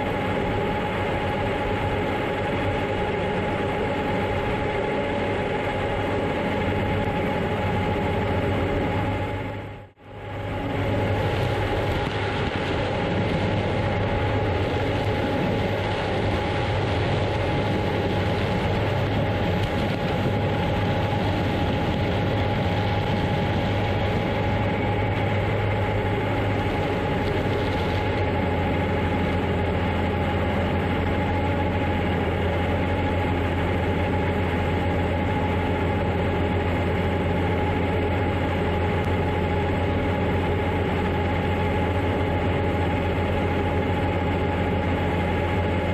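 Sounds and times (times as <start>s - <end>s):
deep engine hum: 0.0s - 45.9s
machinery whine: 0.0s - 45.9s.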